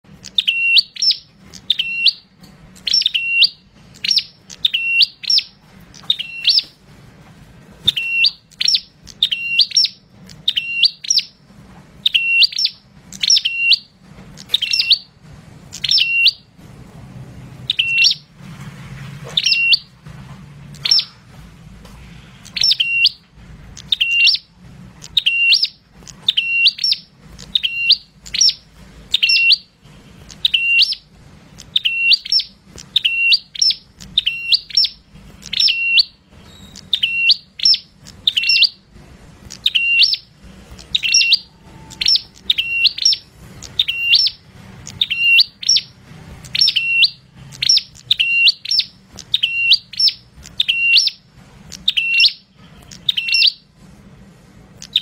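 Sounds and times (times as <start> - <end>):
bird singing high sharp notes: 0.2 - 6.8, 7.8 - 11.4, 12.0 - 16.5, 17.6 - 18.3, 19.4 - 19.9, 20.7 - 21.2, 22.4 - 53.7.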